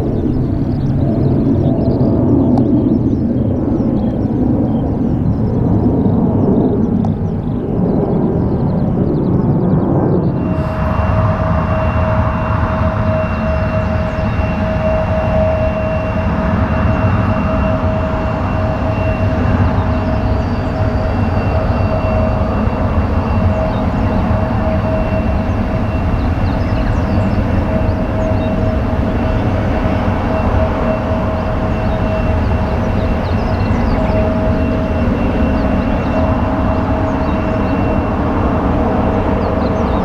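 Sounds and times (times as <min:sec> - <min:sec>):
jet engines rumbling with whine: 0:00.0 - 0:40.0.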